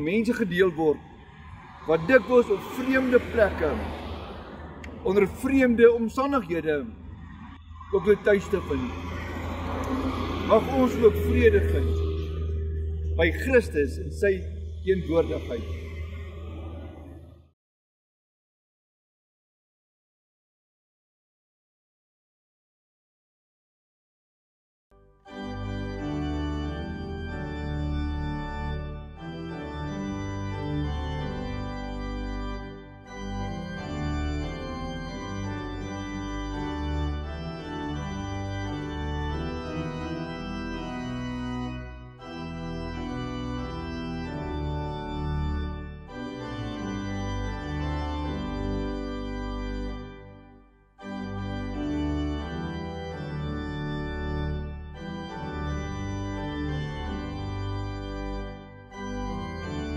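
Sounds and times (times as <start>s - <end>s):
organ playing held chords: 0.0s - 17.1s, 25.0s - 59.9s.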